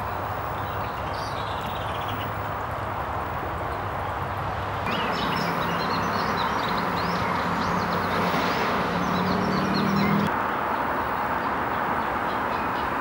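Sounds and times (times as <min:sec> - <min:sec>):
small birds chirping: 0:00.5 - 0:02.4, 0:03.7 - 0:13.0.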